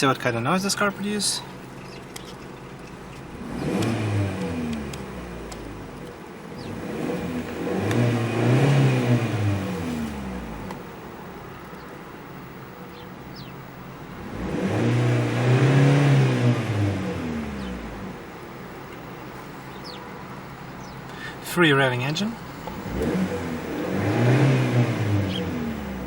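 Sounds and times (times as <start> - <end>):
car engine revving and idling: 0.7 - 26.0.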